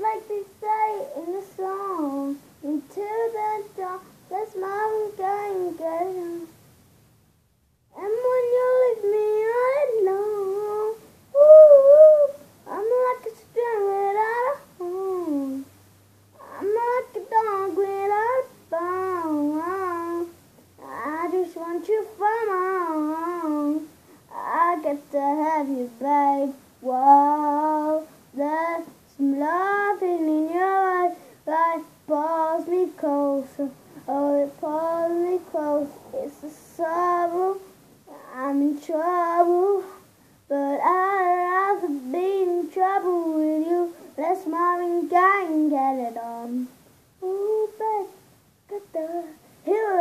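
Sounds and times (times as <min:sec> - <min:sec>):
boy singing unaccompanied: 0:00.0 - 0:06.7, 0:07.9 - 0:50.0.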